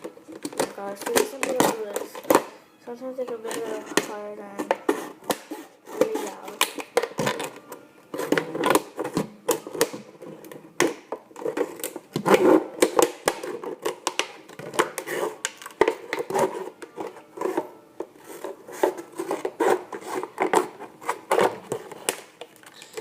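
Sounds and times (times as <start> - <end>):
scissors cutting plastic bottle: 0.0 - 2.6, 3.2 - 23.0.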